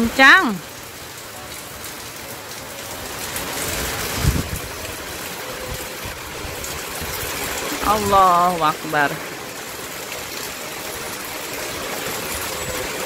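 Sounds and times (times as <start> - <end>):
heavy rain in strong wind: 0.0 - 13.0.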